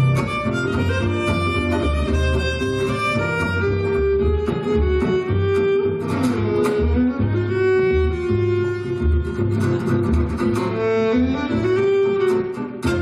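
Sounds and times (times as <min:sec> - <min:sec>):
violin long held notes: 0:00.0 - 0:09.8, 0:10.4 - 0:13.0
low pulsing bass: 0:00.0 - 0:11.9.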